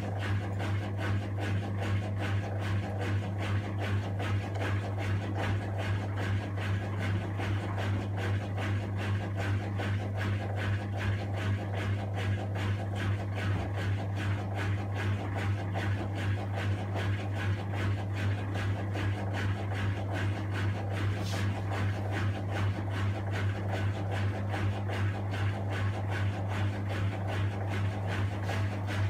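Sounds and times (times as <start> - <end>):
washing machine drum humming: 0.0 - 29.0.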